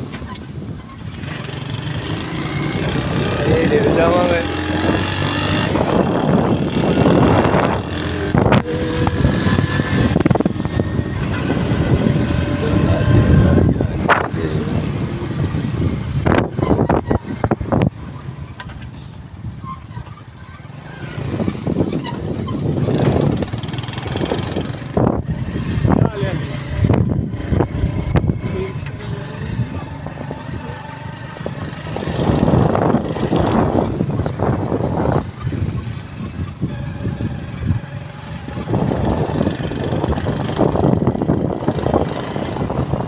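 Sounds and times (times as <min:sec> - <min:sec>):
vehicle driving on rough road: 0:00.0 - 0:43.0
wind on microphone: 0:00.0 - 0:43.0.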